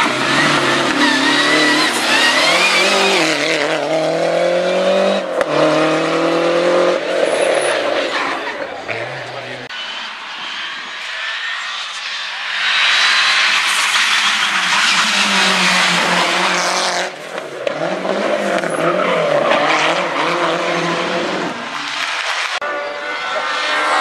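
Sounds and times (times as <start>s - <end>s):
rally car engine at high revs: 0.0s - 24.0s.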